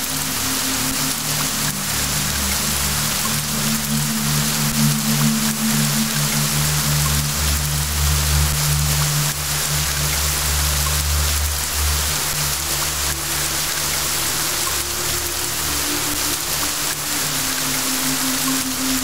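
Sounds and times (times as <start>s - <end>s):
soft ambient music: 0.0s - 19.0s
steady rain hiss: 0.0s - 19.0s.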